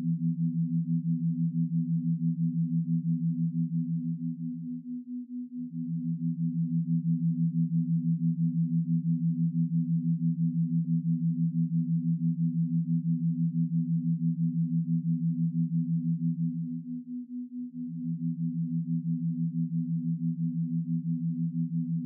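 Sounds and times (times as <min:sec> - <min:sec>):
low pulsing sine tones: 0:00.0 - 0:22.0.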